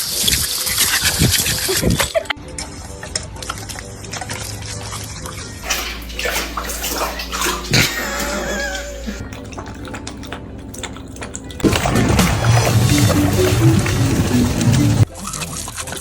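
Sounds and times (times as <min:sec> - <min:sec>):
dog drinking and slurping water: 0:03.2 - 0:16.0.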